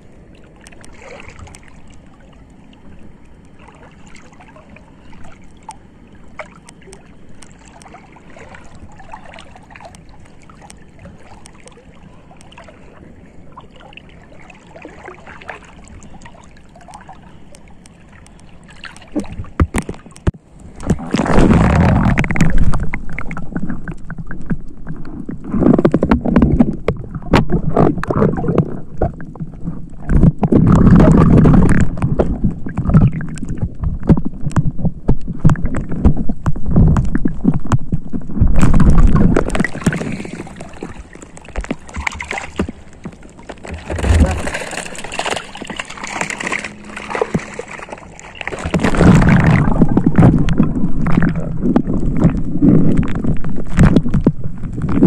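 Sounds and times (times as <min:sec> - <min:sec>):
seawater sloshing and gurgling: 0:00.0 - 0:55.0
water splashing: 0:00.0 - 0:55.0
small clicks and crackles: 0:00.4 - 0:03.6, 0:05.0 - 0:12.8, 0:15.4 - 0:55.0.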